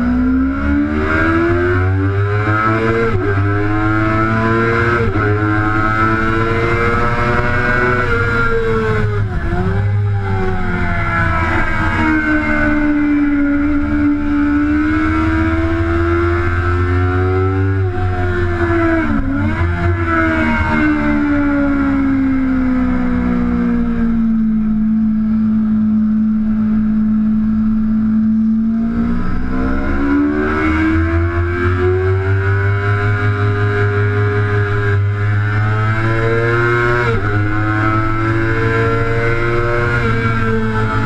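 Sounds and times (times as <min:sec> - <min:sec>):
motorcycle engine at speed: 0:00.0 - 0:41.0.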